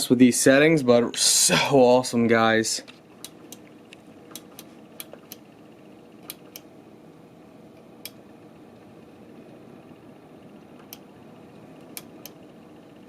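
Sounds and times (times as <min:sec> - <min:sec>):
computer fans humming: 0:00.0 - 0:13.0.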